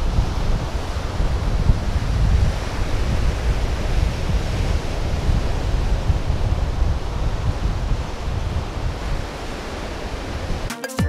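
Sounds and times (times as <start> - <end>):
wind buffeting microphone: 0.0 - 10.7
sea surf: 0.0 - 11.0.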